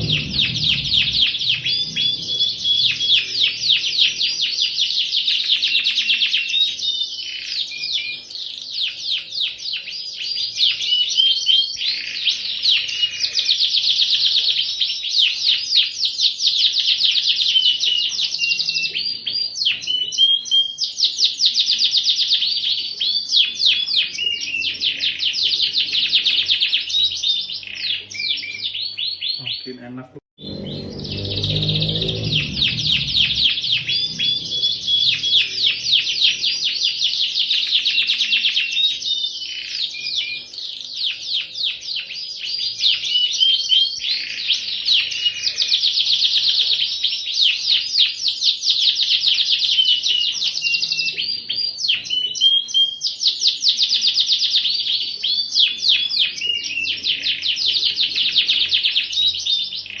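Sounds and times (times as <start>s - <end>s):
canary singing trills: 0.0s - 60.0s.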